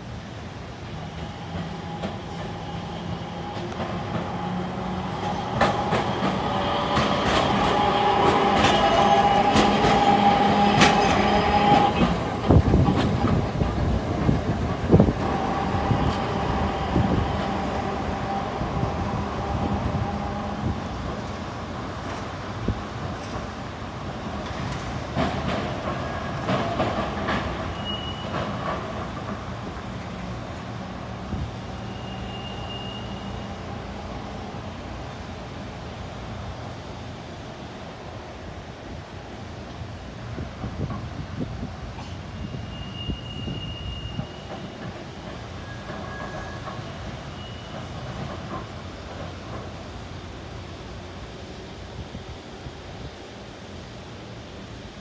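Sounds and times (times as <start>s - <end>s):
streetcar running gear humming: 0.0s - 55.0s.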